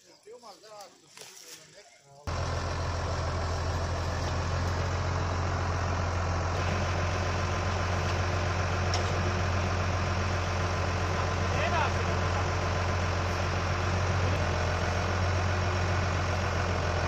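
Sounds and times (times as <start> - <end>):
tractor engine idling: 2.3 - 17.0.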